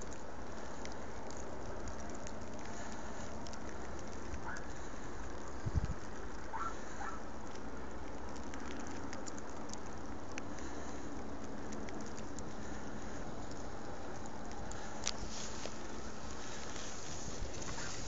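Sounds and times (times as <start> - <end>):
light pattering ticks: 0.0 - 18.0
steady outdoor hiss: 0.0 - 18.0.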